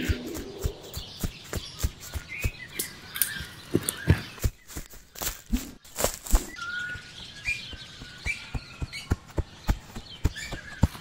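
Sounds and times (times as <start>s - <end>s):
footsteps running on forest floor: 0.0s - 6.6s, 7.2s - 11.0s
birds chirping: 0.0s - 11.0s.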